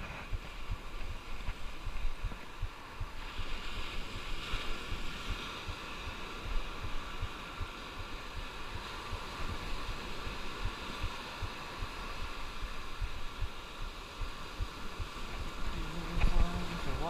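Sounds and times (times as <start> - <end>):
surf rushing: 0.0 - 17.0
wind on microphone: 0.0 - 17.0.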